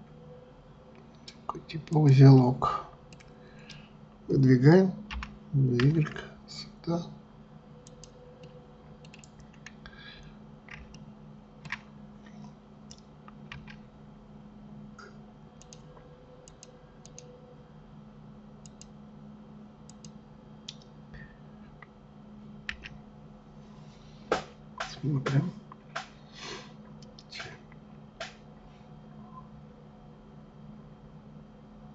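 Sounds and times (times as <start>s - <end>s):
low steady hum: 0.0s - 31.9s.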